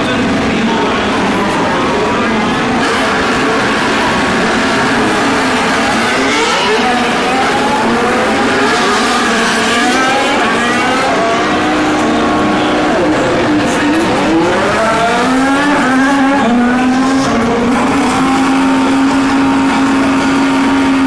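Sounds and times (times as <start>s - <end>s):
racing car engines accelerating: 0.0s - 21.0s.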